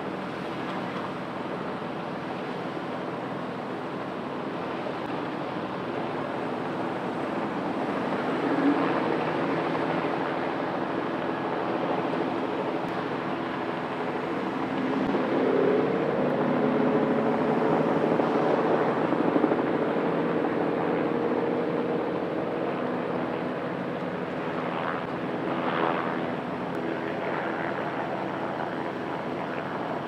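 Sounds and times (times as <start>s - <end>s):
helicopter drone: 0.0s - 30.0s.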